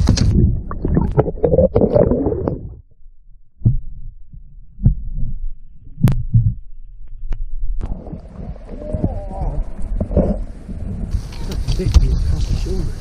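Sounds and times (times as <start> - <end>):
low thumps: 0.0 - 2.9, 3.6 - 11.2
dull underwater rumble: 0.0 - 13.0.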